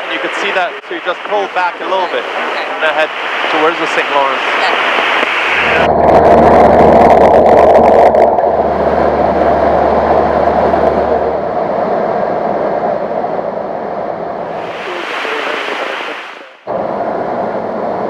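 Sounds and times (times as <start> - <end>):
airflow noise: 0.0 - 18.0
airplane engine drone in flight: 0.0 - 18.0
low hum: 0.0 - 18.0.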